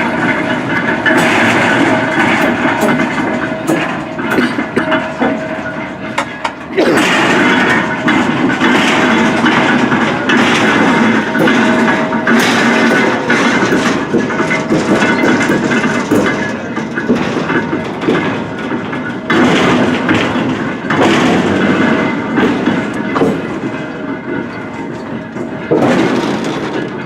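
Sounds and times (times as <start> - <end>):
train clanks and knocks: 0.0 - 27.0
train rumbling on rails: 0.0 - 27.0.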